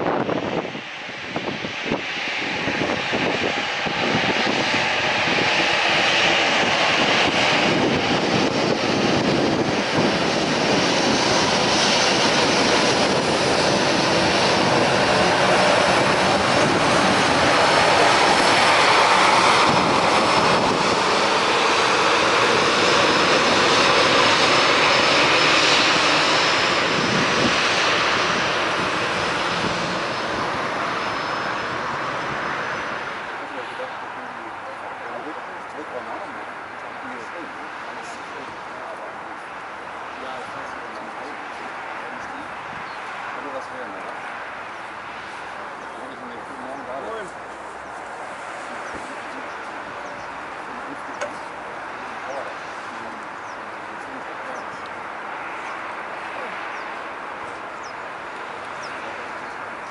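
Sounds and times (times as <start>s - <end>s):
jet airliner taxiing: 0.0s - 59.9s.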